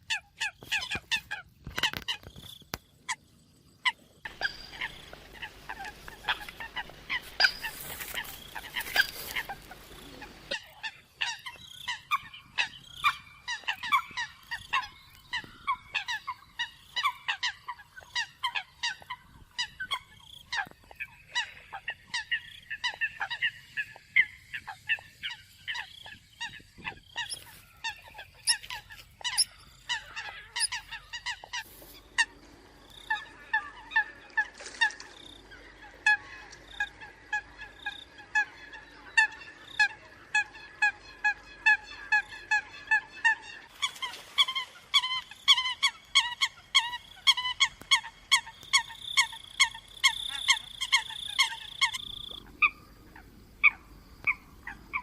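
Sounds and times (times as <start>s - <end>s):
coots honking calls: 3.9s - 55.0s.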